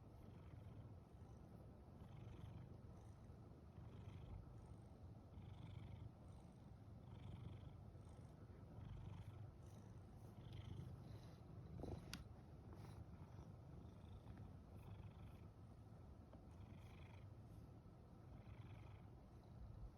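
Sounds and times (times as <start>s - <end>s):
cat purring: 0.1s - 19.9s.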